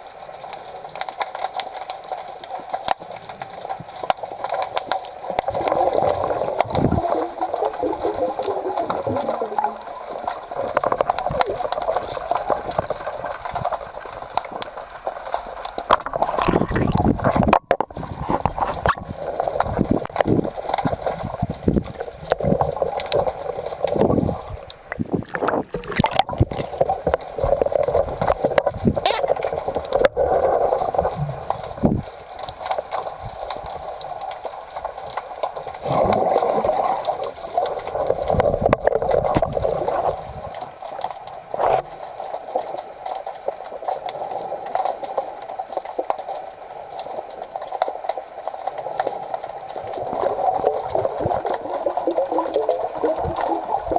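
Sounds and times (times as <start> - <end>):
underwater gurgling and rushing: 0.0 - 53.9.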